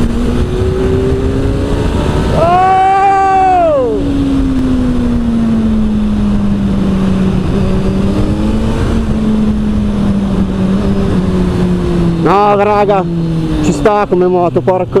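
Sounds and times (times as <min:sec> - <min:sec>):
wind noise: 0:00.0 - 0:14.0
motorcycle engine: 0:00.0 - 0:15.0
road noise: 0:00.0 - 0:15.0.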